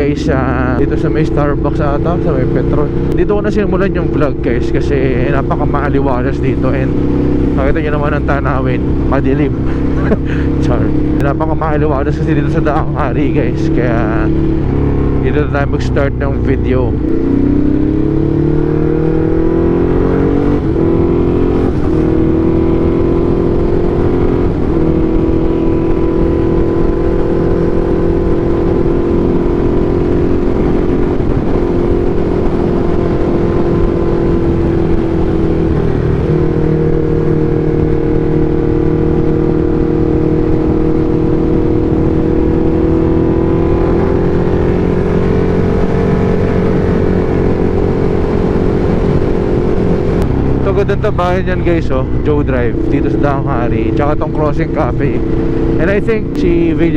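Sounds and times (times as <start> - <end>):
motorcycle engine cruising: 0.0 - 56.9
wind and road noise: 0.0 - 56.9.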